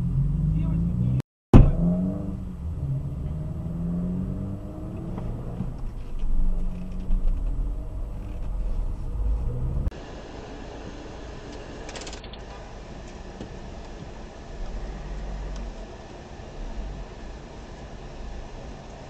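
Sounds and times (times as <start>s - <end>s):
engine and road rumble: 0.0s - 19.0s
in-car hum: 0.0s - 19.0s.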